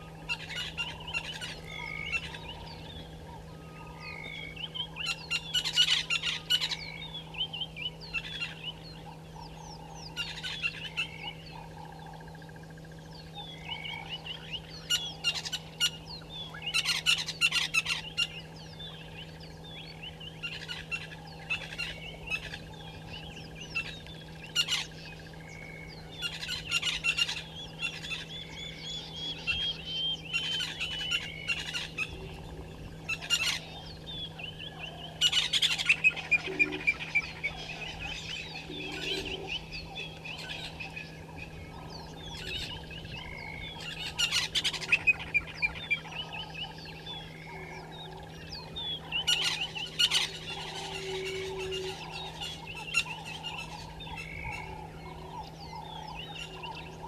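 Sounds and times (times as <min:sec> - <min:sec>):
birds chirping and trilling: 0:00.0 - 0:57.0
low hum: 0:00.0 - 0:57.0.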